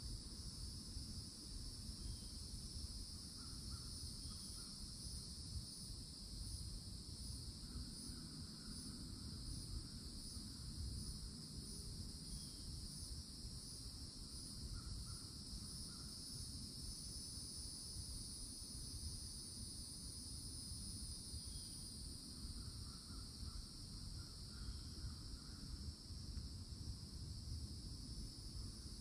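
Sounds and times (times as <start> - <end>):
cicadas droning: 0.0 - 29.0.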